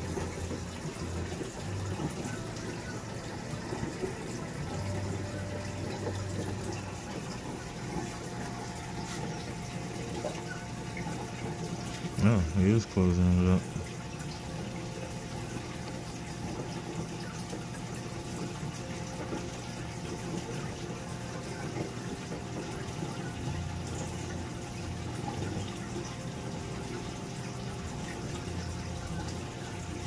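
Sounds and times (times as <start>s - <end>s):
pump hum: 0.0s - 30.0s.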